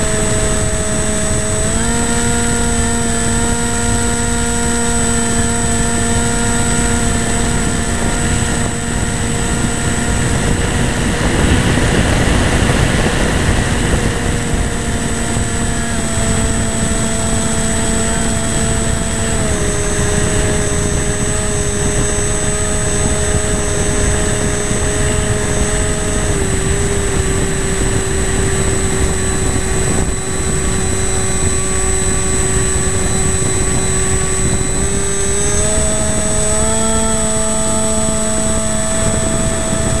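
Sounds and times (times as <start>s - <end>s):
model airplane motor whine: 0.0s - 40.0s.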